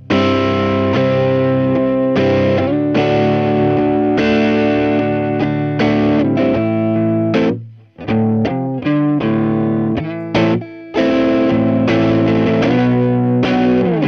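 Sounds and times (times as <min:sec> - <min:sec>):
overdriven electric guitar chords: 0:00.0 - 0:14.0.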